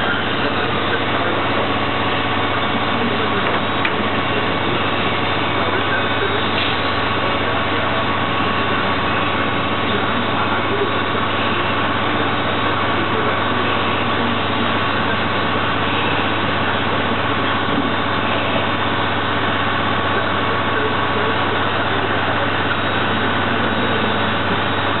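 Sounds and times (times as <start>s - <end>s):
lathe cutting noise: 0.0s - 25.0s
lathe low hum: 0.0s - 25.0s.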